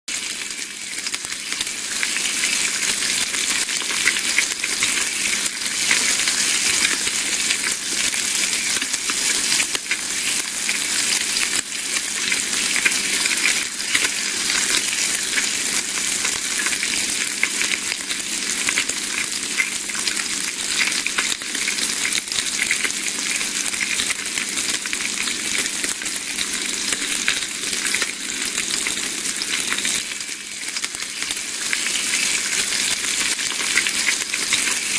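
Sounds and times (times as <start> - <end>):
bacon sizzling in a pan: 0.1 - 34.9.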